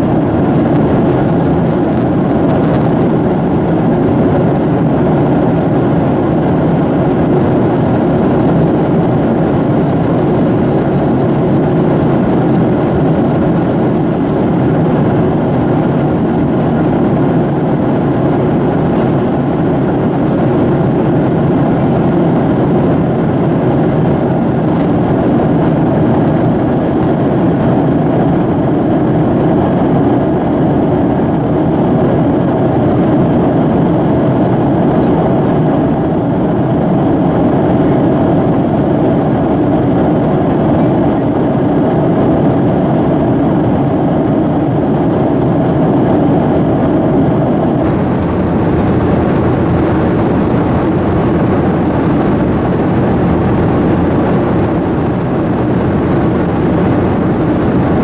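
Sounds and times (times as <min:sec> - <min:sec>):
airflow rushing over fuselage: 0:00.0 - 0:58.0
jet engines droning: 0:00.0 - 0:58.0.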